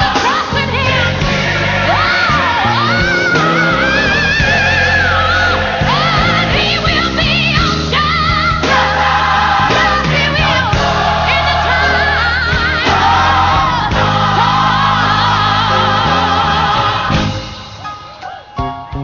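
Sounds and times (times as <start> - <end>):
choir singing gospel music: 0.0 - 19.0.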